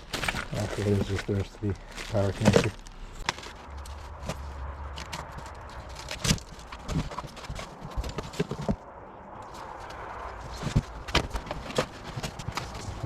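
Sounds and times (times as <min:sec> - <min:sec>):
boxed parts knocking and rustling: 0:00.0 - 0:13.0.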